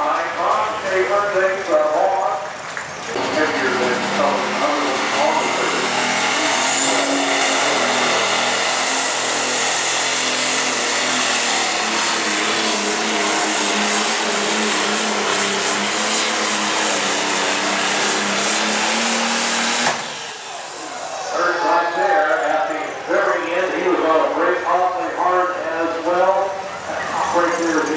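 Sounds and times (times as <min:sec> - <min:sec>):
diesel engine running flat out: 0:00.0 - 0:27.9.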